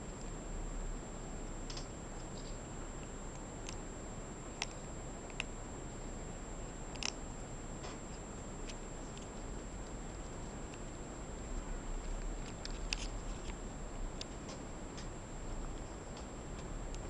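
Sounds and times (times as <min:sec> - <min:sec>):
kitten crunching dry food: 0:00.1 - 0:17.0.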